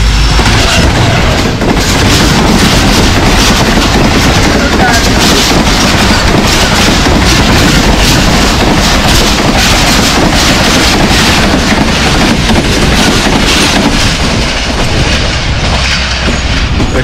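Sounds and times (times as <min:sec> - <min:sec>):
passenger train rushing past: 0:00.0 - 0:17.0
wheels clattering over rail joints: 0:00.4 - 0:17.0.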